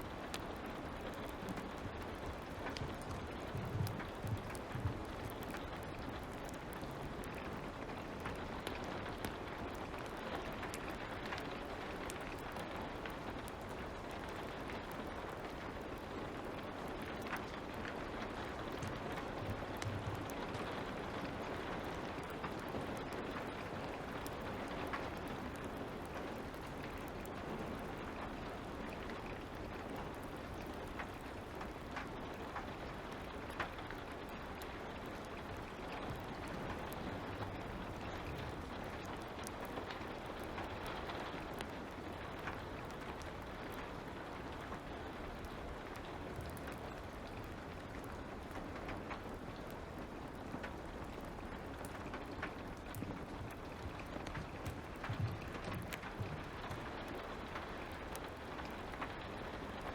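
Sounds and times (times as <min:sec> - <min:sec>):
fire crackling and popping: 0:00.0 - 0:59.9
light rain hiss: 0:00.0 - 0:59.9.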